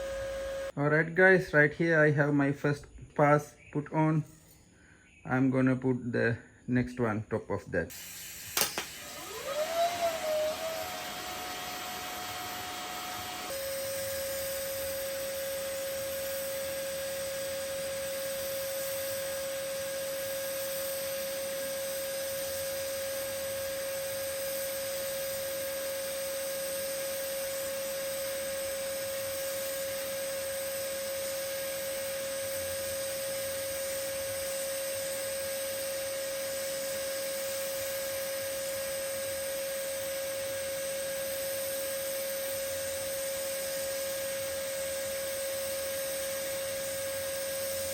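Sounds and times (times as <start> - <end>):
welding arc humming and hissing: 0.0 - 0.7, 7.9 - 47.9.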